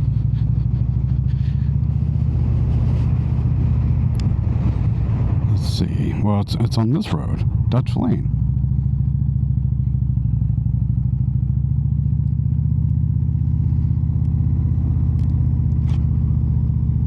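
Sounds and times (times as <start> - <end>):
motorcycle engine running: 0.0 - 5.8, 7.1 - 17.0.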